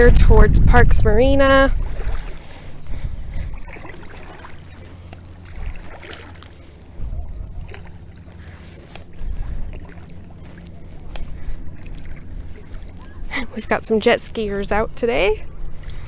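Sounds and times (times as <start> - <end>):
microphone rumble: 0.0 - 4.5, 6.8 - 16.0
paddle strokes splashing: 0.6 - 16.0
water dripping: 1.8 - 15.1.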